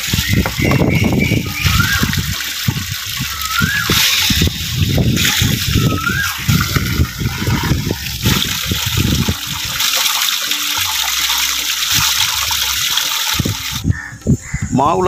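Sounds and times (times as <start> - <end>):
water pouring from a spout: 0.0 - 13.8
water splashing and sloshing: 0.0 - 13.9.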